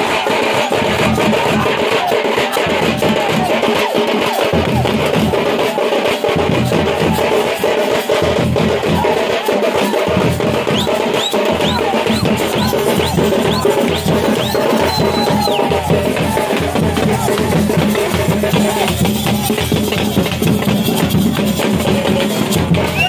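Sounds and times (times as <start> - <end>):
frame drums beaten with sticks: 0.0 - 23.0.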